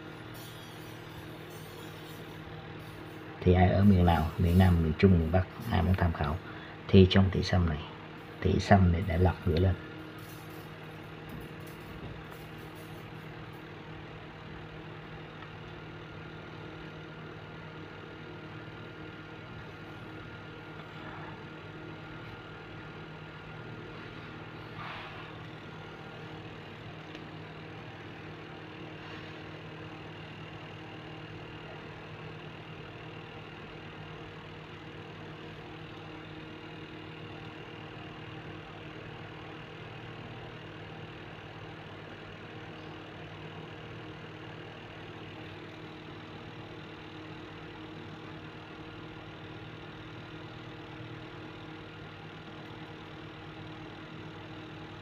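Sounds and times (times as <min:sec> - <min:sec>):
steady motor hum: 0:00.0 - 0:55.0.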